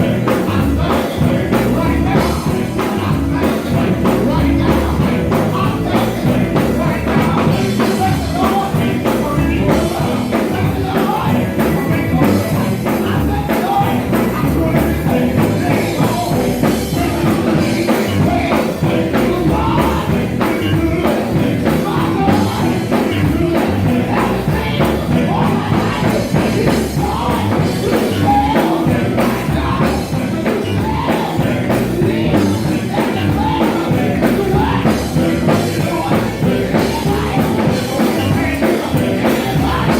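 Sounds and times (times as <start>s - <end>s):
live gospel band playing: 0.0s - 39.9s
singing: 0.0s - 39.9s.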